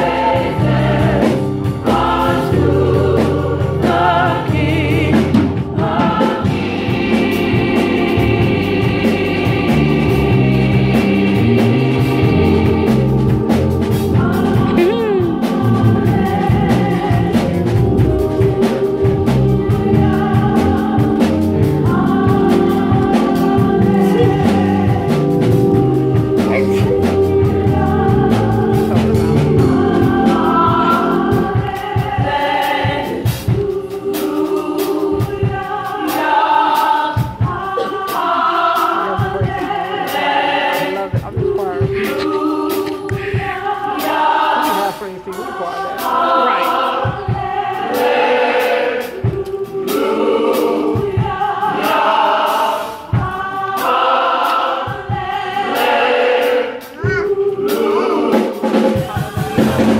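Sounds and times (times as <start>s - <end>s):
gospel choir singing: 0.0s - 59.9s
instrumental backing: 0.0s - 59.9s.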